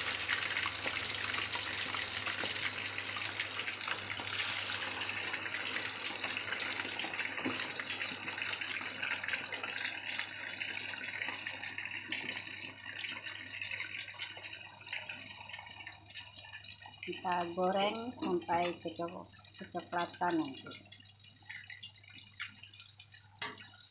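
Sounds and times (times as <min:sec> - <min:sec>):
tofu sizzling in hot oil: 0:00.0 - 0:23.9.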